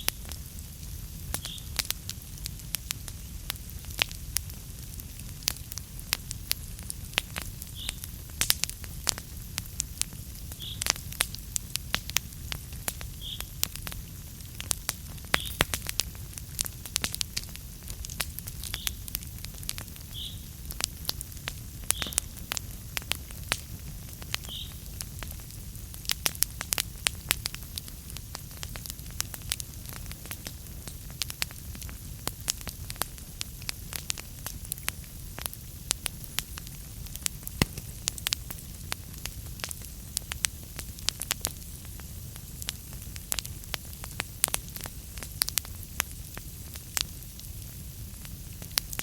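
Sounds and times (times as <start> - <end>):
flames rumbling and hissing: 0.0 - 49.0
logs crackling and popping: 0.0 - 49.0.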